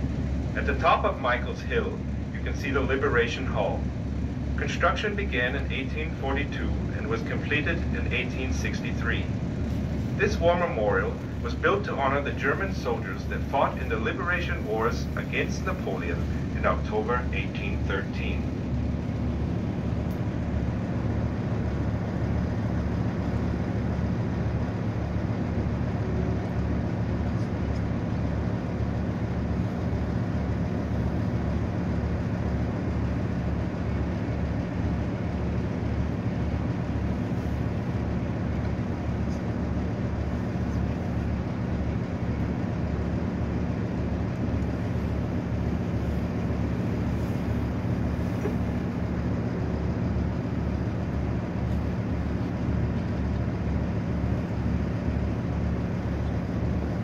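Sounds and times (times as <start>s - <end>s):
boat engine droning: 0.0s - 57.0s
wind: 0.0s - 57.0s.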